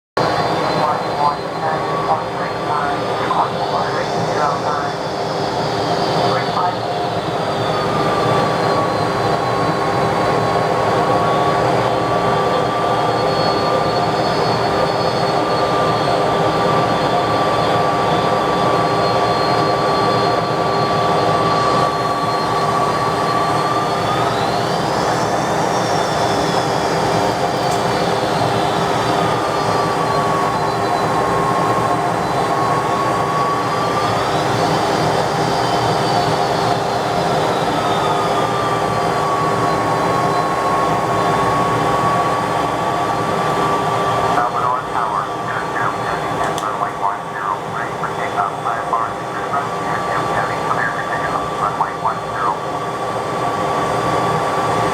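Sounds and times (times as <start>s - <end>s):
jet engines whining: 0.2s - 54.9s.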